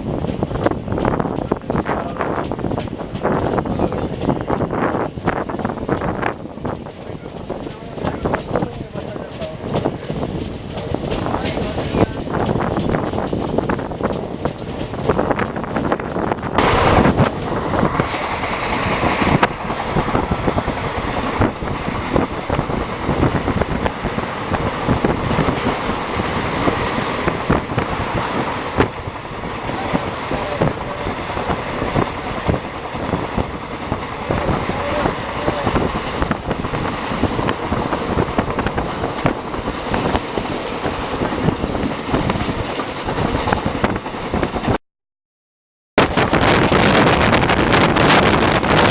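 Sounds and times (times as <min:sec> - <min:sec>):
train running noise rush: 0:00.0 - 0:44.8, 0:46.0 - 0:48.9
train wheels clattering over rails: 0:00.0 - 0:44.8.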